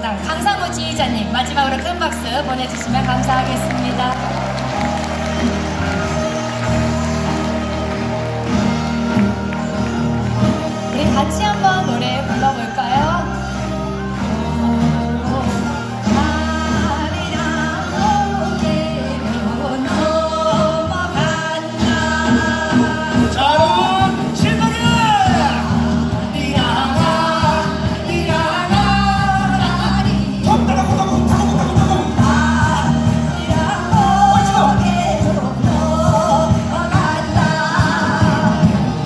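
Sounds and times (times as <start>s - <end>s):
orchestra playing: 0.0s - 39.0s
people singing into microphones: 4.2s - 39.0s.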